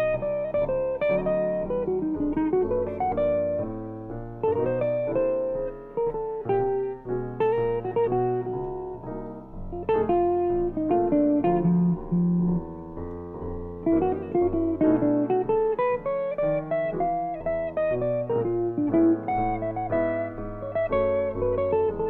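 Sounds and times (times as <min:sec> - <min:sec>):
electric guitar jazz solo: 0:00.0 - 0:22.0.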